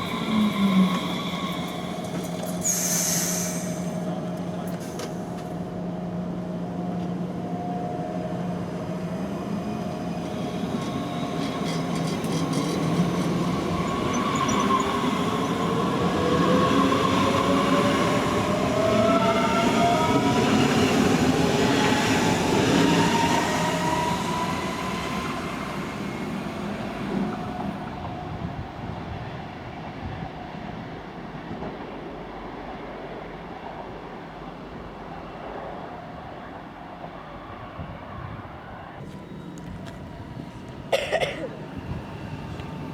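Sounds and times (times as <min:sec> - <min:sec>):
electric train passing: 0:00.0 - 0:40.9, 0:41.5 - 0:42.9.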